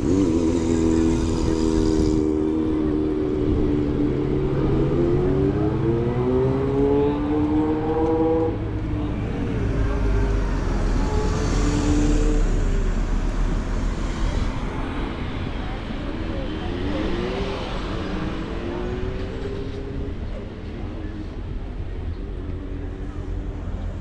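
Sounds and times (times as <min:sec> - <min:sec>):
vehicle engine accelerating: 0:00.0 - 0:24.0.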